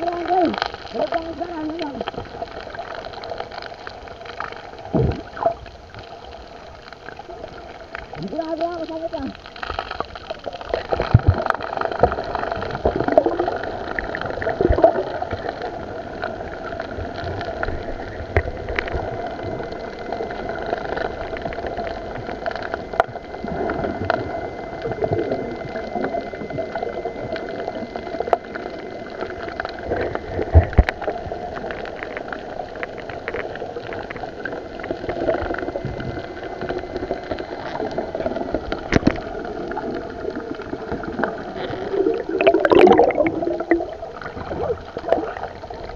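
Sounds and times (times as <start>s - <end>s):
muffled underwater gurgling: 0.0s - 45.9s
steady hum: 0.0s - 45.9s.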